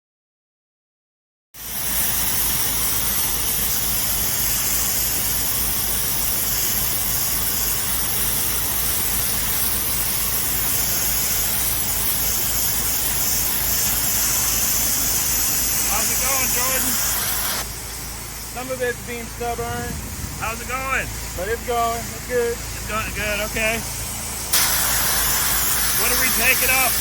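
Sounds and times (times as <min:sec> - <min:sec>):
high-pressure water spray hissing: 0:01.6 - 0:27.0
pressure washer motor hum: 0:01.6 - 0:27.0.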